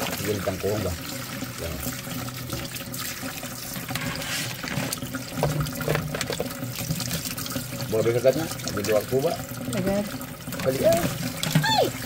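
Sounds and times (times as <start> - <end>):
tap water running into metal sink: 0.0 - 12.0.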